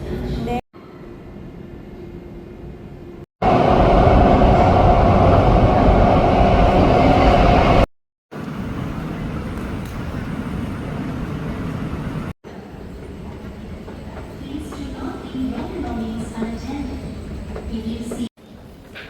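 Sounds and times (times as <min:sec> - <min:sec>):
metro train rumbling: 0:00.0 - 0:18.8.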